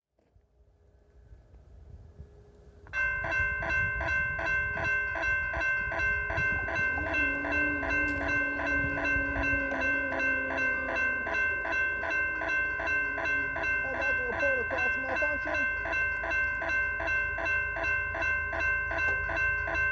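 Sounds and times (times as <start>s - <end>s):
crossing bell dings: 2.9s - 19.9s
high-pitched tone: 3.0s - 19.9s
weird electronic bell sound: 3.0s - 19.9s.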